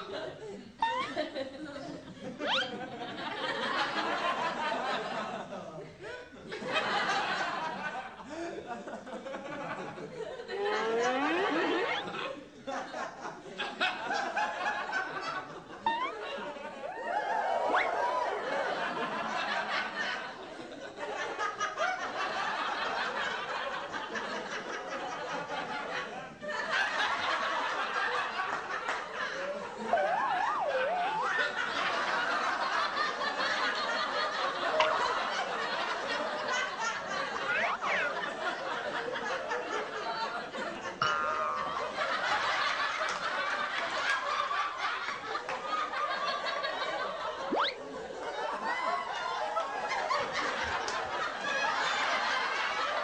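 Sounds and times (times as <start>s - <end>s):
group of people laughing: 0.0s - 53.0s.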